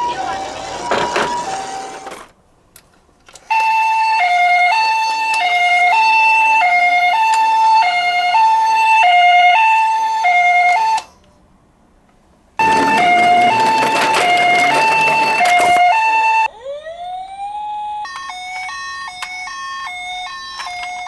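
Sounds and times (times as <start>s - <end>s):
two-tone ambulance siren: 0.0s - 2.2s, 3.5s - 11.2s, 12.6s - 21.0s.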